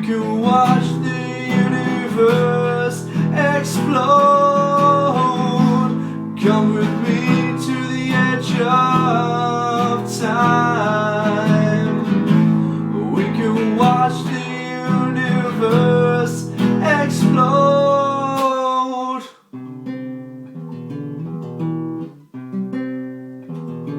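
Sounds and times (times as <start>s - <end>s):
acoustic guitar strummed and picked: 0.0s - 23.9s.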